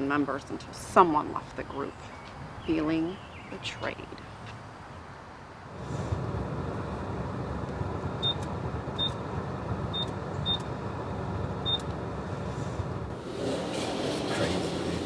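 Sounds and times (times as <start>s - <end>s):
low background noise: 0.0s - 12.4s.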